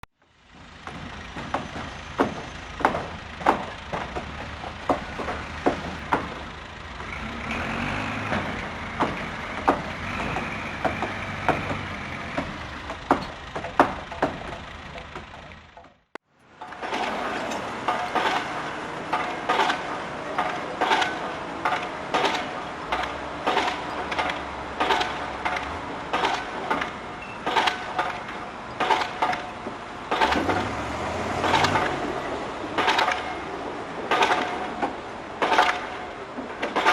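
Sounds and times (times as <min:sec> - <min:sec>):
sharp knocks and bangs: 0:00.5 - 0:36.9.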